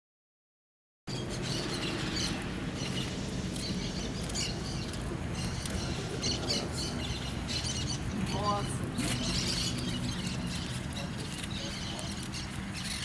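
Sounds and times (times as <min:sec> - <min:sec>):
small birds chirping: 0:01.1 - 0:13.0.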